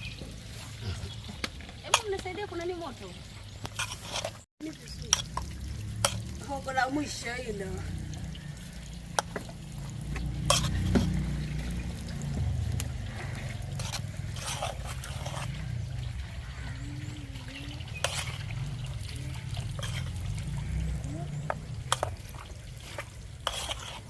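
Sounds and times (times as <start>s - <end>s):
liquid pouring and trickling: 0.0s - 24.0s.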